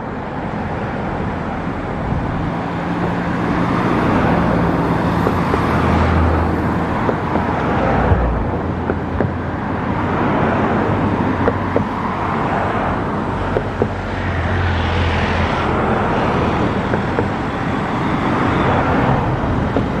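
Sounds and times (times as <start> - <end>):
cars passing on a bridge: 0.0 - 20.0
low engine hum: 0.0 - 20.0.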